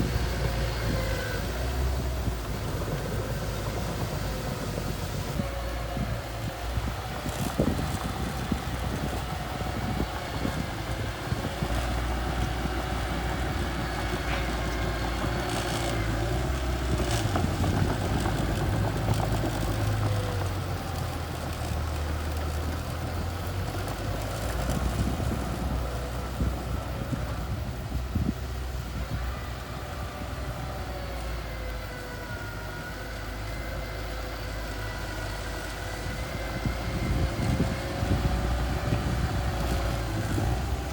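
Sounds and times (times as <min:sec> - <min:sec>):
bulldozer engine running: 0:00.0 - 0:40.9.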